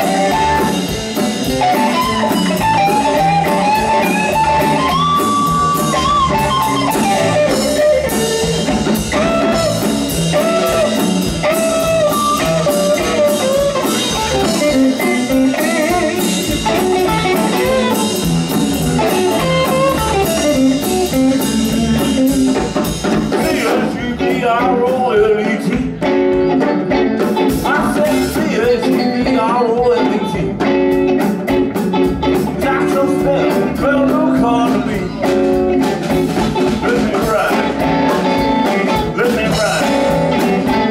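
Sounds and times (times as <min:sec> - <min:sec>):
electric guitar lead: 0:00.0 - 0:40.9
live blues band: 0:00.0 - 0:40.9.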